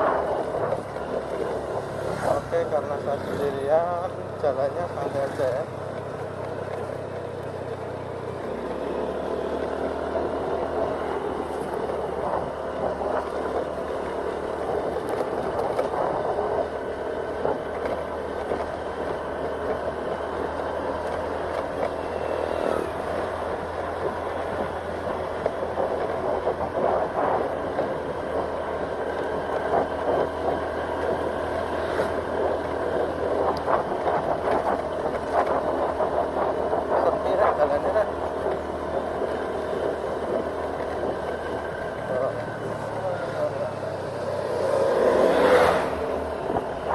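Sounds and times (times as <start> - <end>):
road and wind noise: 0.0 - 46.9
scooter engine running: 0.0 - 46.9.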